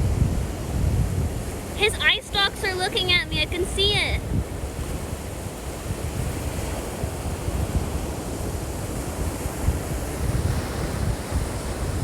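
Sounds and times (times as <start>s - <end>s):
surf on beach: 0.0s - 12.0s
wind buffeting microphone: 0.0s - 12.0s.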